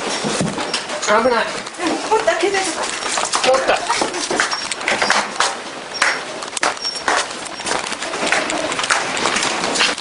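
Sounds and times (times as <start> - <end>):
clattering and rattling knocks: 0.0 - 10.0.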